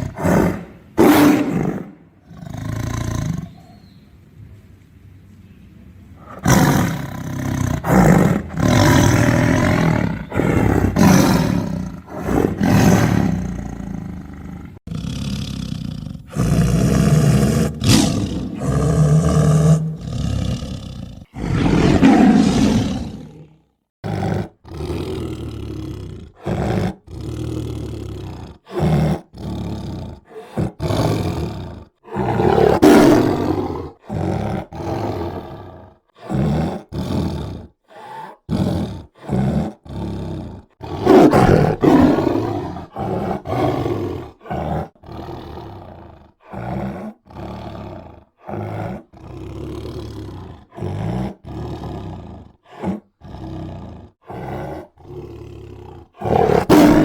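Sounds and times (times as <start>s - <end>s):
tiger roaring and growling: 0.0s - 3.8s, 6.2s - 57.0s.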